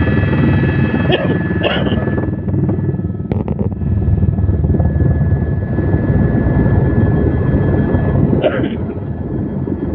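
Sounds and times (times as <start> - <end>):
helicopter high whine: 0.0 - 9.9
helicopter rotor beating: 0.0 - 9.9.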